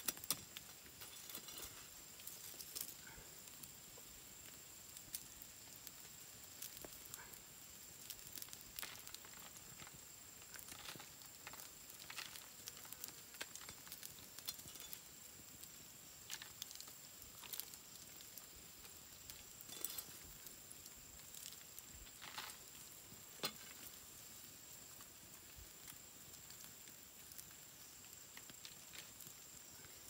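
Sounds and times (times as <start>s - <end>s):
campfire crackling and sizzling: 0.0s - 30.0s.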